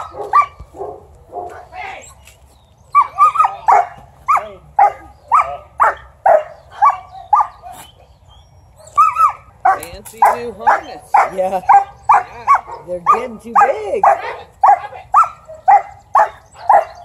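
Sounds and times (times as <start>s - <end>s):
dog barking: 0.0s - 1.7s, 3.0s - 7.9s, 8.8s - 17.0s.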